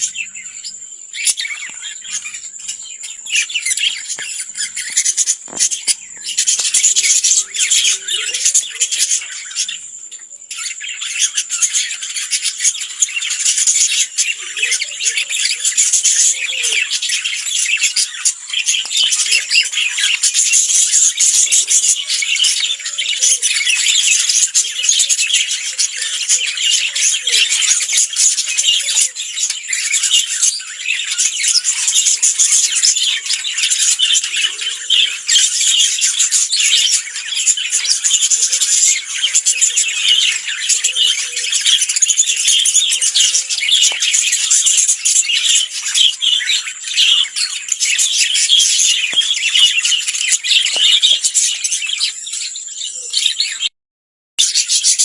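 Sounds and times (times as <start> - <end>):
lovebirds chattering and squawking: 0.0 - 53.7, 54.4 - 55.0.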